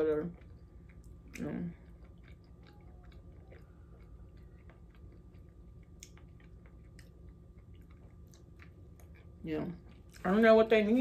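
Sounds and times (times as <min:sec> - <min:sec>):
person chewing food: 0:00.0 - 0:10.3
faint steady hum: 0:00.0 - 0:11.0.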